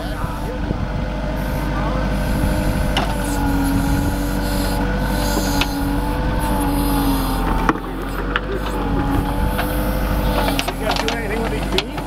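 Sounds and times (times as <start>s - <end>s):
steady whine: 0.0s - 12.0s
tractor diesel engine running: 0.0s - 12.0s.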